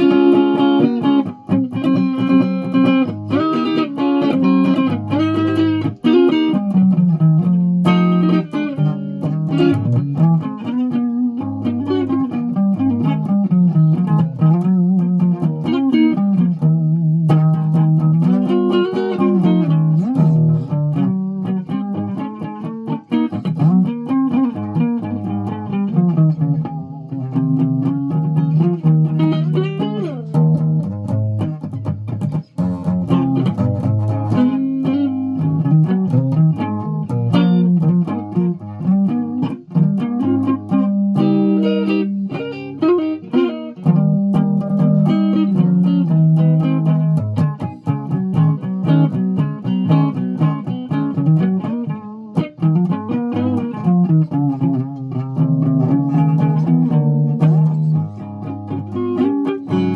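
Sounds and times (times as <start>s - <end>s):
slow guitar melody: 0.0s - 59.9s.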